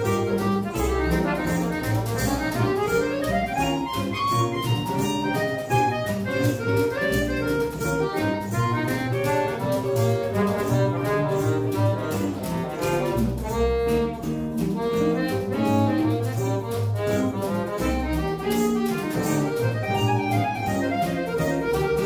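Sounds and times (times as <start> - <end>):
accordion melody: 0.0 - 22.0
guitar strumming rhythm chords: 0.0 - 22.0
plucked double bass: 0.0 - 22.0
plucked lute melody: 0.0 - 22.0.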